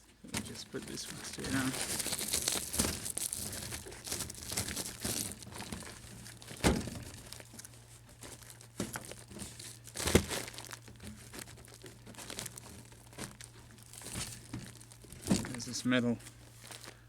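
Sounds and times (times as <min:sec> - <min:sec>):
duct bumps: 0:00.2 - 0:16.9
flexible duct crinkling: 0:00.2 - 0:17.0.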